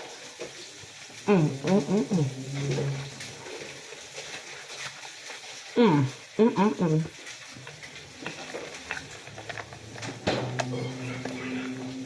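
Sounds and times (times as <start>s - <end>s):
wet crackly chewing: 0.0s - 12.0s.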